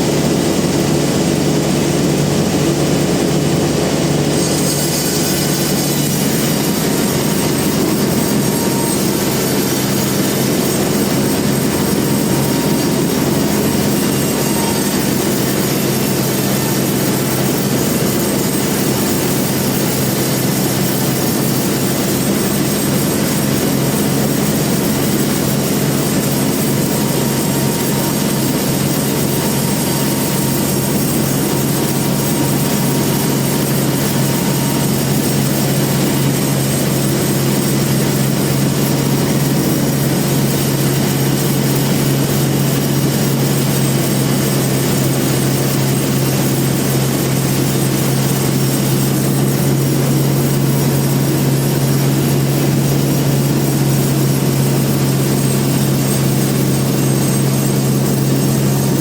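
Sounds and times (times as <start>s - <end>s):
sawmill machine hum and whine: 0.0s - 59.0s.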